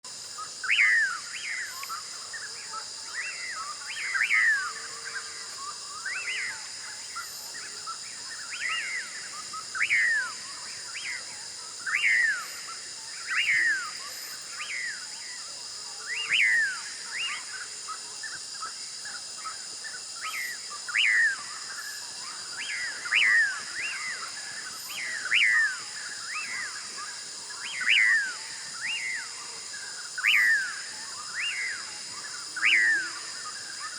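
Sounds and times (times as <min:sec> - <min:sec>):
steady high-pitched hiss: 0:00.1 - 0:33.9.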